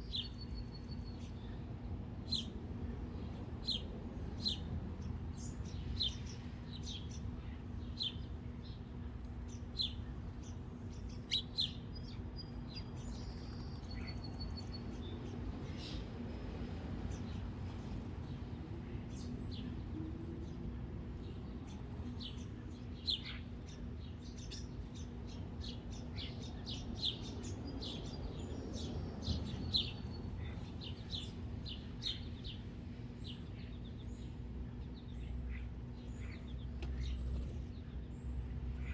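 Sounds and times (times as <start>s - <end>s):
small birds chirping: 0.0s - 2.6s, 3.2s - 38.9s.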